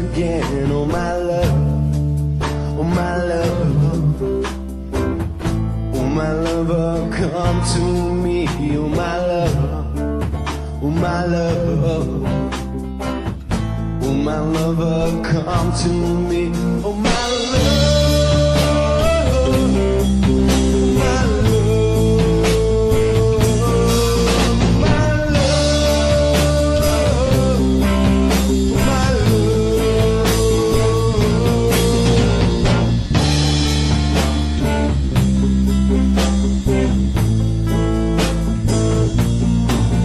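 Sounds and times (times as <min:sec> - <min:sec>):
bass: 0:00.0 - 0:40.0
pitch-bending lead guitar line: 0:00.0 - 0:40.0
steady drum beat: 0:00.0 - 0:40.0.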